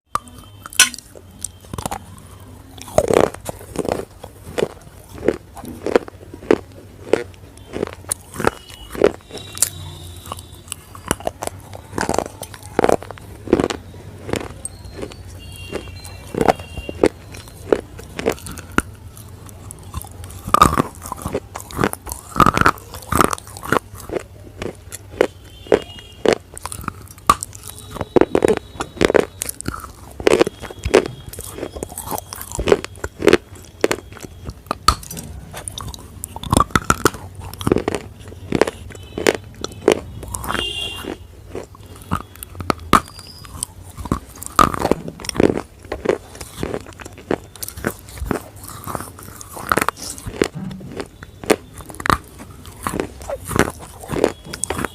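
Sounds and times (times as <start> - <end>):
person crunching a bar: 0.1 - 54.9.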